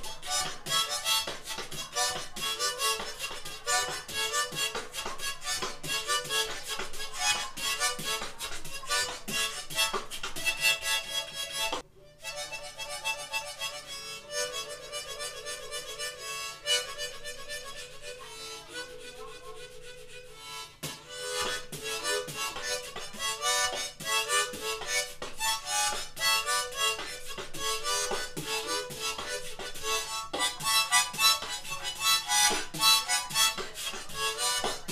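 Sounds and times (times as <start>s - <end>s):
harmonica playing: 0.0s - 34.9s.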